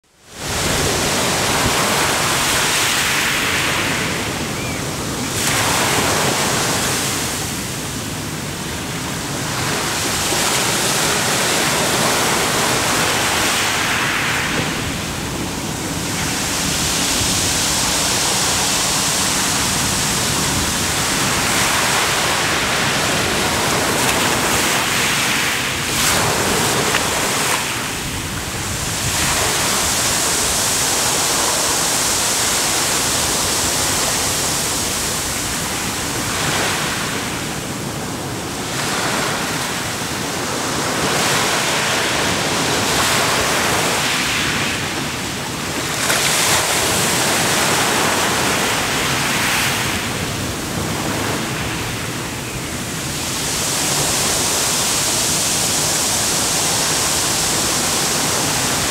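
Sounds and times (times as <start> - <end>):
ocean surf on sandy shore: 0.1 - 58.9.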